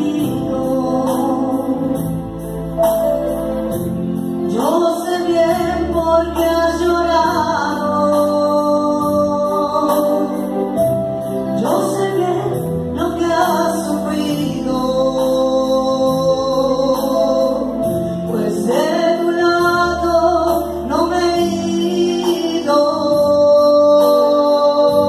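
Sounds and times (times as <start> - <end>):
woman singing into microphone: 0.0 - 2.4, 4.4 - 10.8, 11.4 - 25.0
electronic keyboard chords: 0.0 - 25.0.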